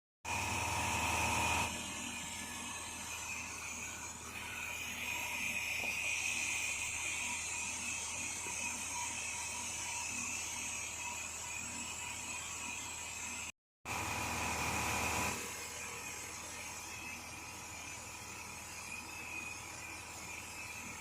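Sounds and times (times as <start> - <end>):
small machine humming with whine: 0.3 - 21.0.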